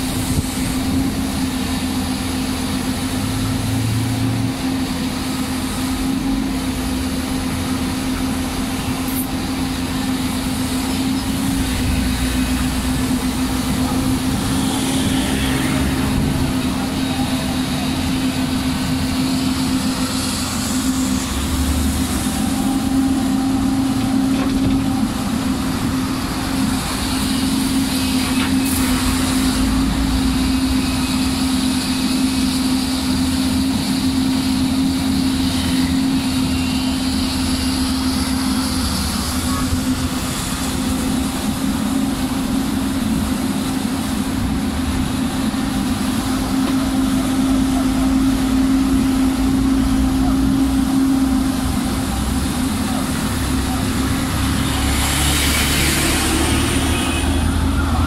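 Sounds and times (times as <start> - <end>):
heavy diesel machinery engine drone: 0.0 - 58.0.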